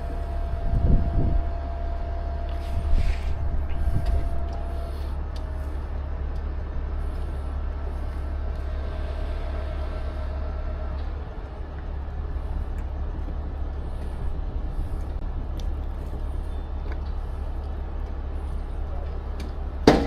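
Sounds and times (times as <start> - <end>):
diesel truck engine running: 0.0 - 20.0
faint steady whine: 0.0 - 20.0.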